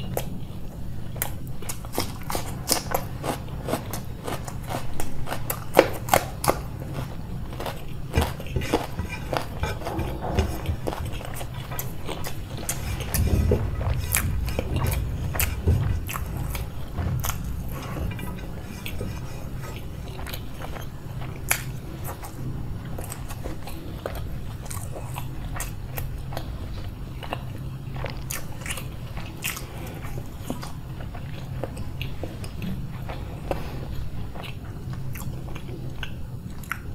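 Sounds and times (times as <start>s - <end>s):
steady low hum: 0.0s - 36.9s
wet chewing: 0.0s - 36.9s.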